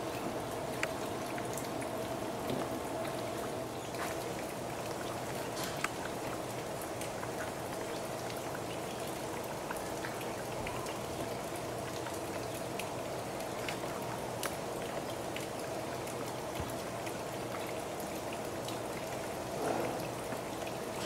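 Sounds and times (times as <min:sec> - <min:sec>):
water drops pattering: 0:00.4 - 0:21.0.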